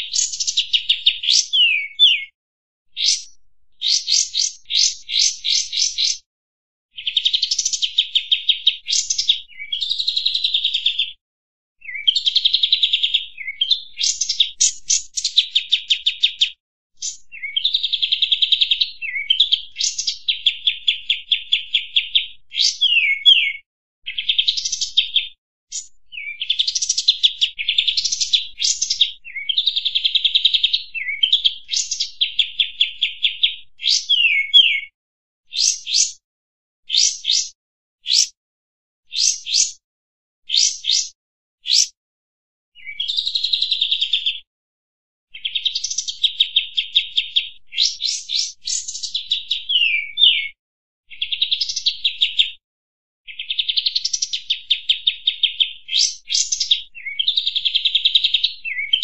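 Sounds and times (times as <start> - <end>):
bird singing rattling phrases: 0.0 - 6.3, 6.9 - 11.2, 11.8 - 36.2, 36.9 - 38.4, 39.1 - 39.8, 40.5 - 42.0, 42.7 - 44.5, 45.3 - 52.6, 53.3 - 59.0.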